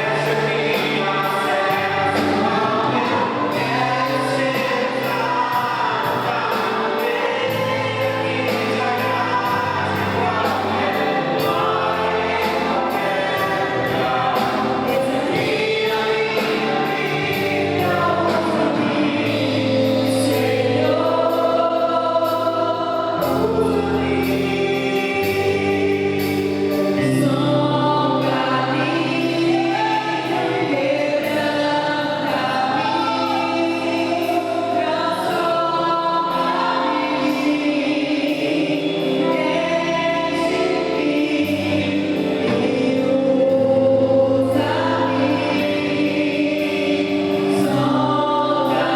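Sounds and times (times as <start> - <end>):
bass line: 0.0 - 48.9
group singing gospel song: 0.0 - 48.9.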